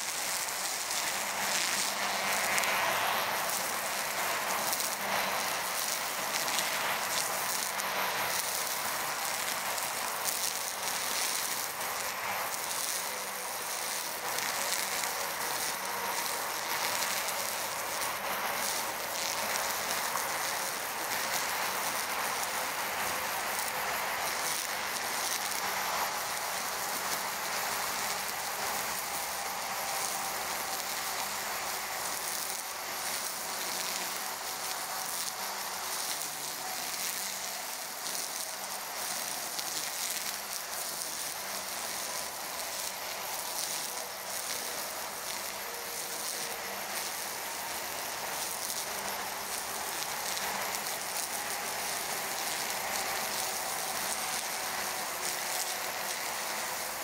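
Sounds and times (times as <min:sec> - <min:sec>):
brush cutter cutting grass: 0:00.0 - 0:57.0
faint motor whine: 0:00.0 - 0:57.0.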